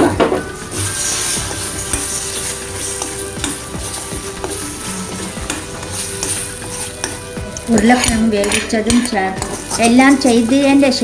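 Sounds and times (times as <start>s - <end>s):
eggs sizzling in hot oil: 0.0s - 11.0s
spatula scraping metal pan: 0.3s - 11.0s.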